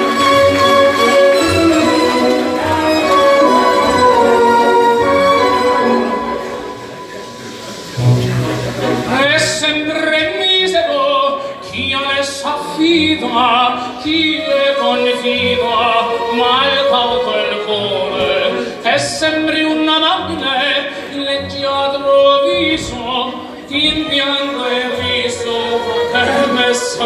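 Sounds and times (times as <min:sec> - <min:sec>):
person singing opera: 0:00.0 - 0:08.2, 0:08.9 - 0:27.0.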